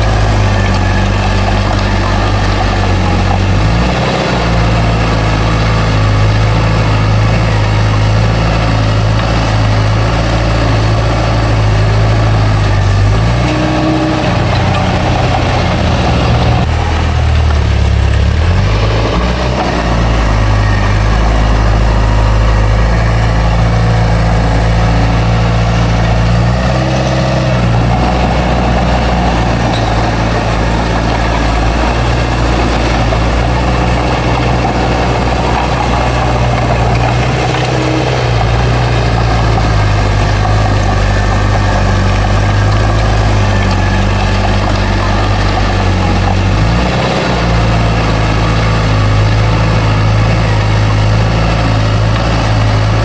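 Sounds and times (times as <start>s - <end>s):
bulldozer diesel engine drone: 0.0s - 53.0s.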